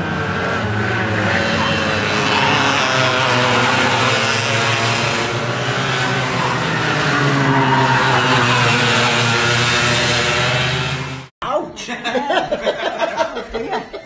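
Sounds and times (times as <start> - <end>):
go-kart engines droning: 0.0 - 11.3.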